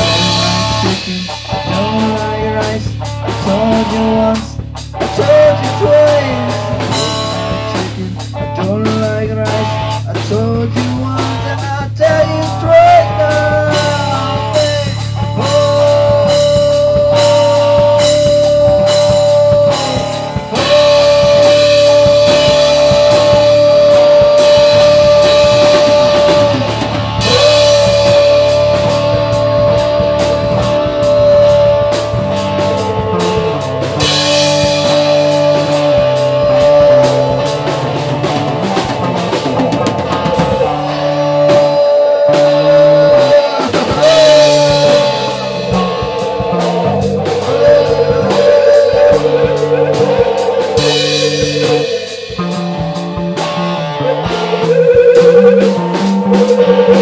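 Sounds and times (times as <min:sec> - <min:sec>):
bass line: 0:00.0 - 0:57.0
drums: 0:00.0 - 0:57.0
electric guitars: 0:00.0 - 0:57.0.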